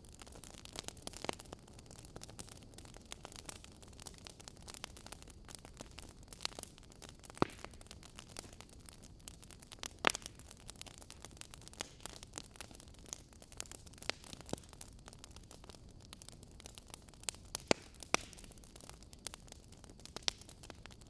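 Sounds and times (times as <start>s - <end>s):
wood fire crackling: 0.0s - 21.0s
fire pops: 0.1s - 21.0s.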